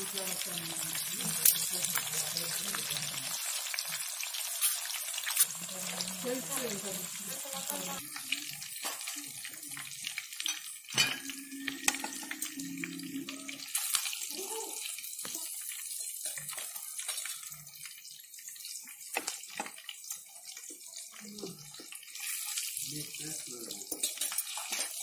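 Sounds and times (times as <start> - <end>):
fish deep-frying in oil: 0.0 - 25.0.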